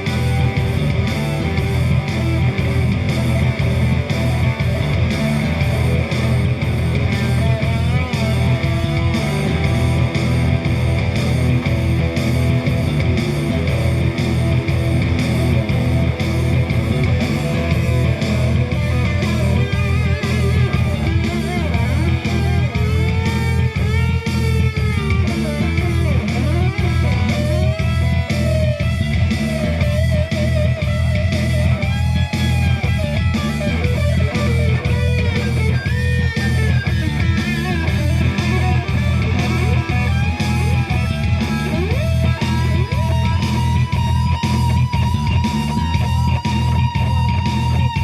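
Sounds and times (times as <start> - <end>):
bass guitar: 0.0 - 48.0
electric guitar lead: 0.0 - 48.0
live rock band playing: 0.0 - 48.0
steady drum beat: 0.0 - 48.0.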